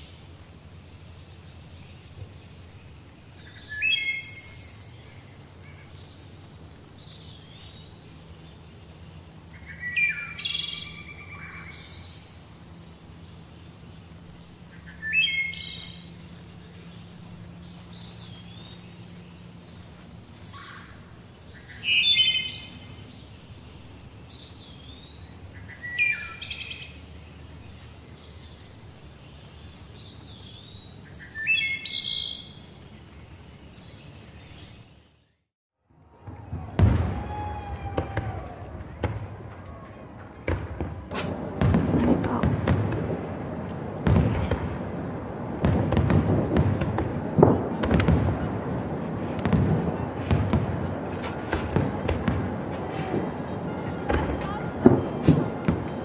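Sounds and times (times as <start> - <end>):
songbird singing: 0.0 - 35.5, 37.2 - 56.0
birds chirping: 0.8 - 35.4, 38.3 - 56.0.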